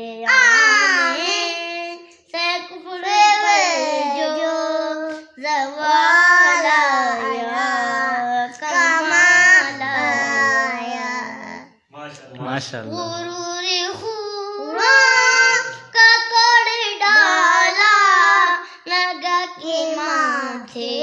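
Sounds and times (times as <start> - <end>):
boy singing unaccompanied: 0.0 - 11.8, 12.5 - 21.0.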